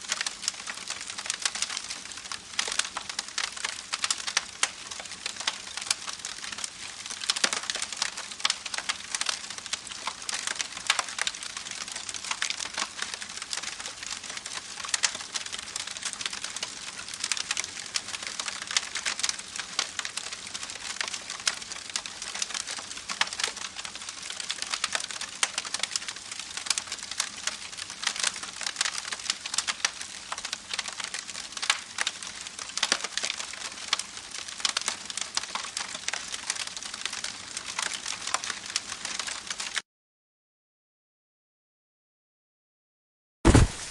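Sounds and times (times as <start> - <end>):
falling water pattering: 0.1 - 39.8.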